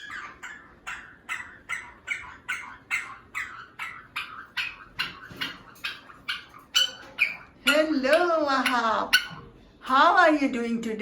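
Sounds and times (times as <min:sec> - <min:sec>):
parrot squawking: 0:00.0 - 0:09.7.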